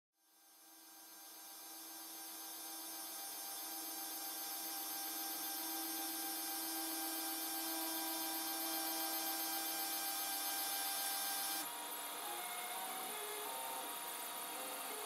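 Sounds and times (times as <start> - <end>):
stepper motors whining: 0.9 - 15.0.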